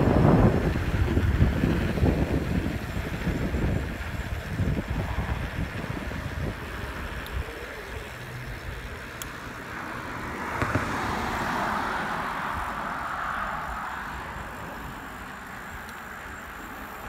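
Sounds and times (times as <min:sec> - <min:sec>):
vehicle passing by: 0:00.0 - 0:17.0
wind rumble on microphone: 0:00.0 - 0:17.0.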